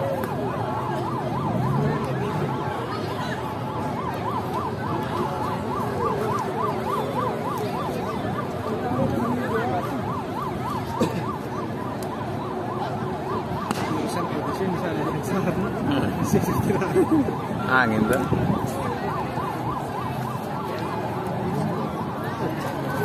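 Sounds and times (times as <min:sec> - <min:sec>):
electronic siren yelping: 0:00.0 - 0:23.0
large outdoor crowd noise: 0:00.0 - 0:23.0.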